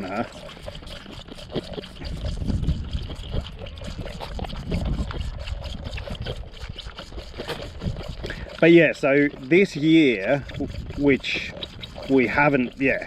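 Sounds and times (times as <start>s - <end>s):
goat kids slurping from bottles: 0.0s - 13.0s.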